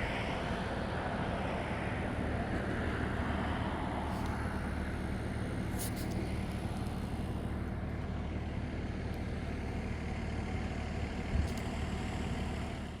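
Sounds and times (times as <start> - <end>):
light rail train rumbling: 0.0 - 13.0.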